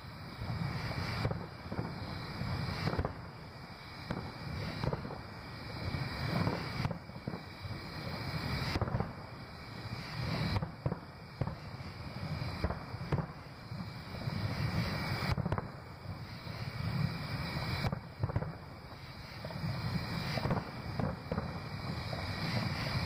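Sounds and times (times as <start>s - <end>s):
firework booms: 0.0s - 23.0s.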